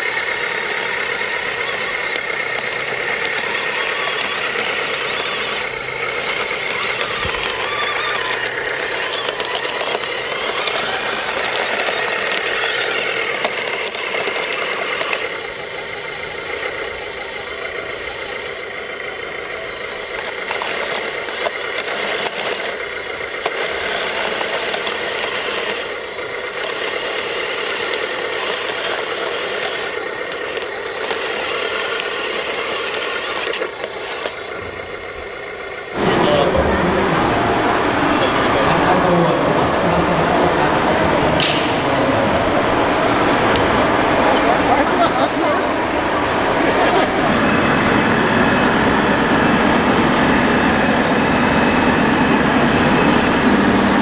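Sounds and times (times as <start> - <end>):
electric motors whining: 0.0 - 54.0
gears and tracks rattling: 0.0 - 54.0.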